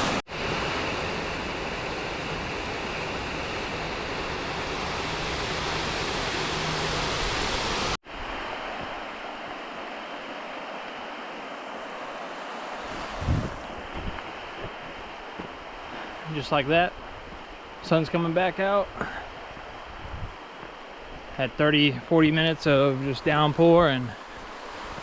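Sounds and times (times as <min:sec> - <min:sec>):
falling water rushing: 0:00.0 - 0:25.0.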